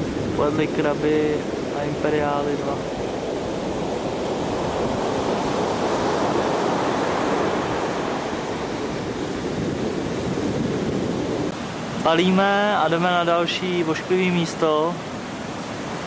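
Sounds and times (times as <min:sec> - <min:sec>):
surf breaking on a beach: 0:00.0 - 0:16.0.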